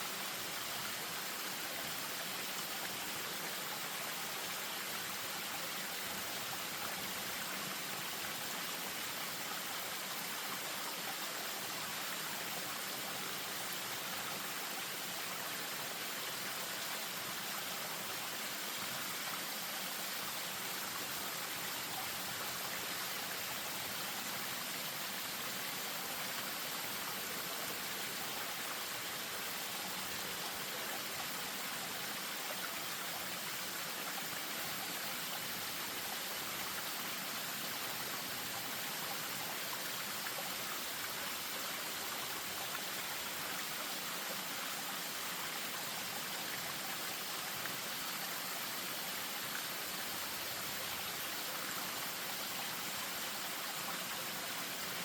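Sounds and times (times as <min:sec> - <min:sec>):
stream over small waterfall: 0:00.0 - 0:55.0.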